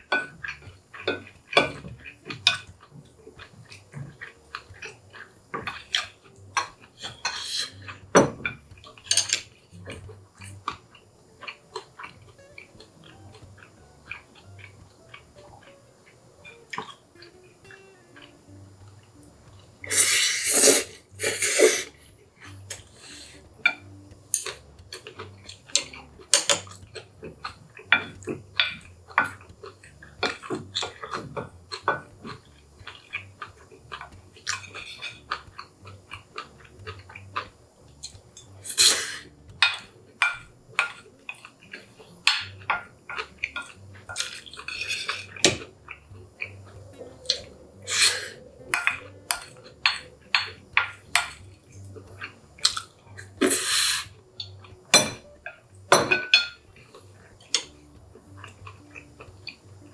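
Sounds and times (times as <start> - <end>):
wet chewing: 0.3 - 20.1, 21.9 - 55.9, 56.6 - 59.9.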